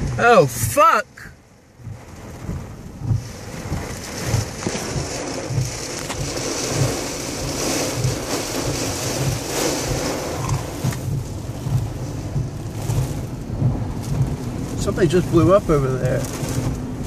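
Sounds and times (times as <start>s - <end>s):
heavy rain pelting a car: 0.0s - 17.0s
low thumps: 0.0s - 17.0s.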